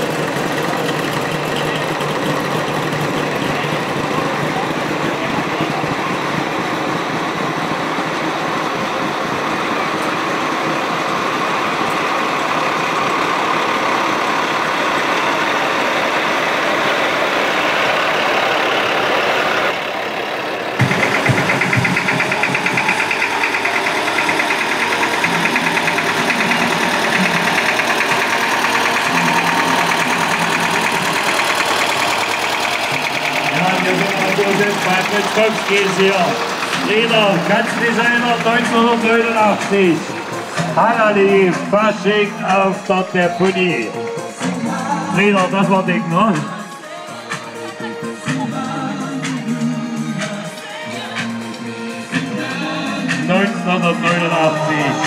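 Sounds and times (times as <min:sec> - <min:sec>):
bus driving past: 0:00.0 - 0:55.0
tractor engine running: 0:00.0 - 0:55.0.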